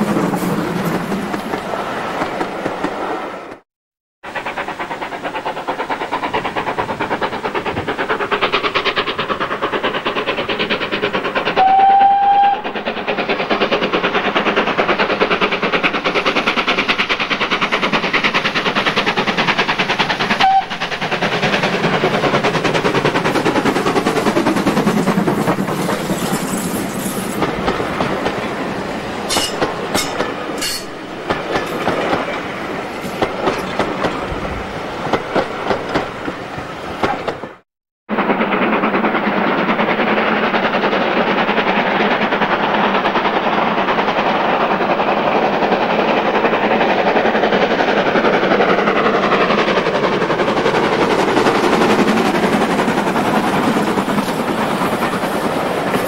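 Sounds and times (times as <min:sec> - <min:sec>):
train rumble and clatter: 0:00.0 - 0:03.6, 0:04.3 - 0:56.0
train wheels clicking over rail joints: 0:04.3 - 0:37.6, 0:38.2 - 0:56.0.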